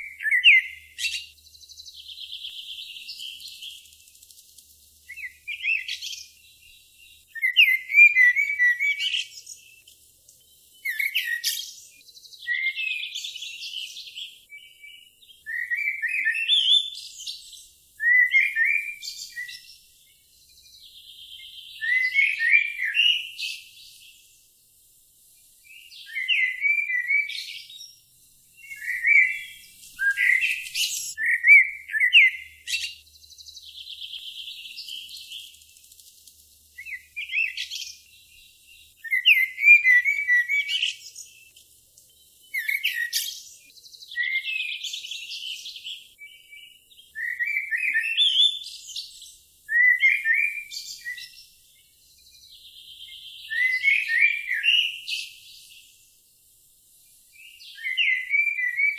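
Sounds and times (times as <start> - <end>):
songbirds twittering: 0.0 - 58.9.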